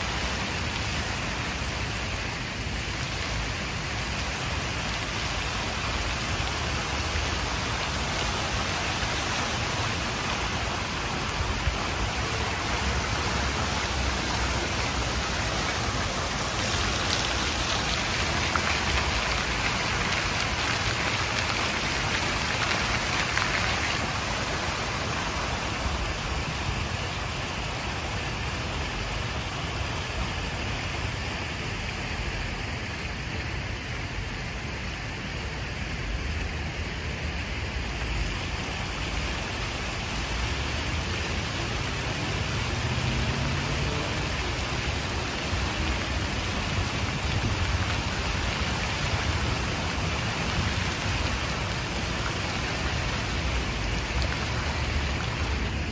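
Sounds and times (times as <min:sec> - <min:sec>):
fountain jets splashing: 0:00.0 - 0:55.9.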